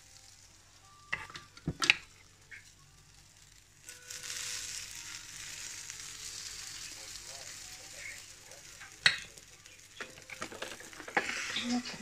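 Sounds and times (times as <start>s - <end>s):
batter sizzling on waffle maker: 0.0s - 12.0s.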